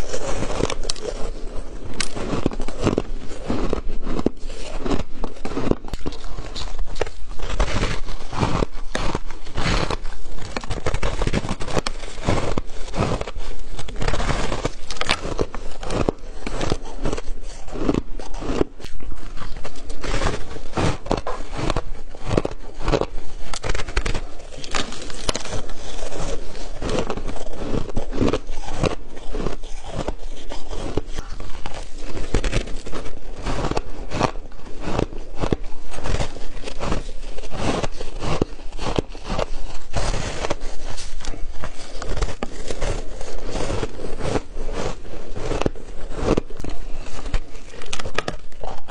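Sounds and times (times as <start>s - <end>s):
shaved ice crunching when chewed: 0.0s - 48.9s.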